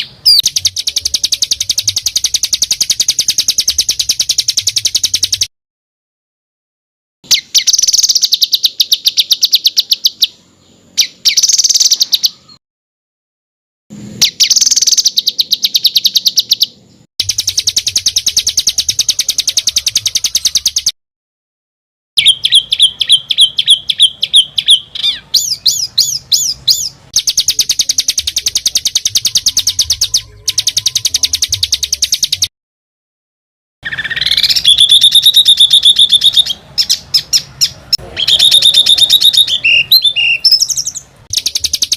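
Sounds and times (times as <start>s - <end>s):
songbird trills: 0.0s - 5.5s, 7.3s - 12.6s, 14.2s - 20.9s, 22.2s - 32.5s, 33.8s - 41.9s
whistled bird phrases: 0.0s - 5.5s, 7.3s - 12.6s, 14.2s - 20.9s, 22.2s - 32.5s, 33.8s - 41.9s.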